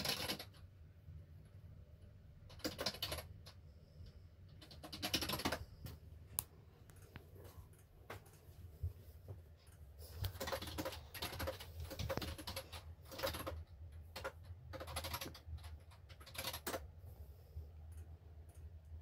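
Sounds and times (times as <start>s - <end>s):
soft rapid clicks and rustles: 0.0s - 19.0s
steady low hum: 0.0s - 19.0s.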